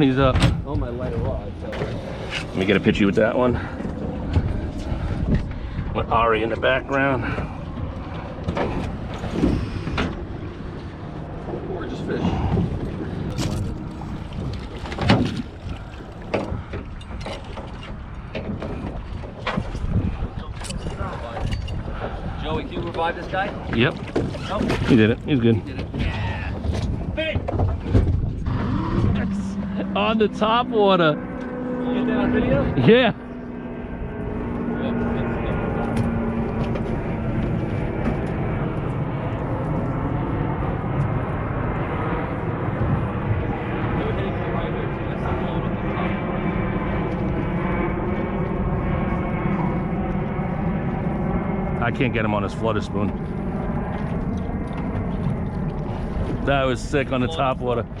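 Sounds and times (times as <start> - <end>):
boat engine low rumble: 0.0 - 58.0.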